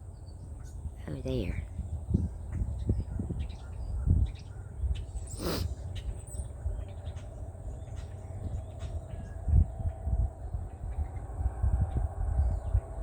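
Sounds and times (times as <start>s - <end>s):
songbirds chirping: 0.0s - 11.4s.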